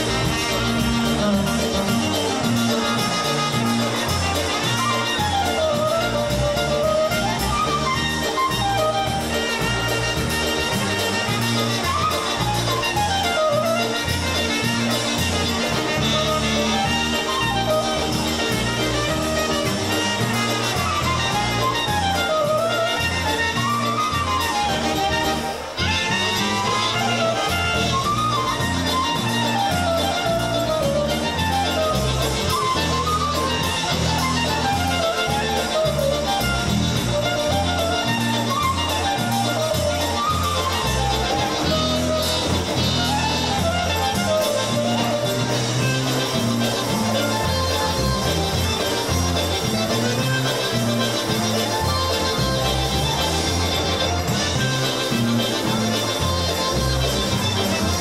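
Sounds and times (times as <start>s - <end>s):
bass line: 0.0s - 58.0s
polka band playing: 0.0s - 58.0s
steady drum beat: 0.0s - 58.0s.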